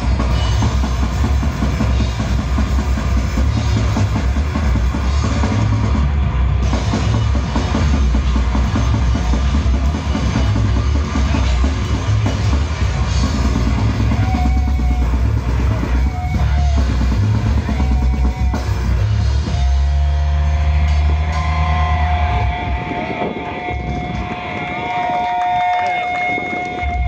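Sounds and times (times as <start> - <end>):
pounding drum kit: 0.0 - 25.1
heavy metal band playing live: 0.0 - 25.2
distorted guitars: 0.0 - 27.0.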